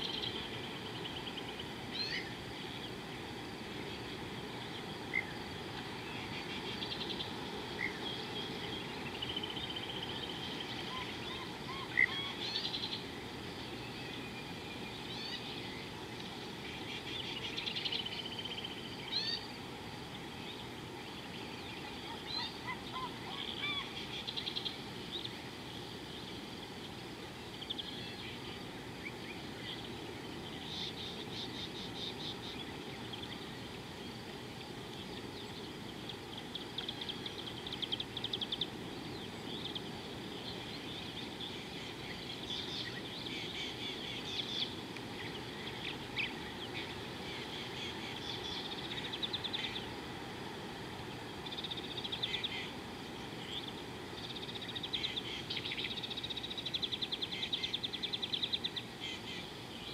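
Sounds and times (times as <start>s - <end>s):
low background hiss: 0.0s - 59.9s
wild birds calling: 0.0s - 59.9s.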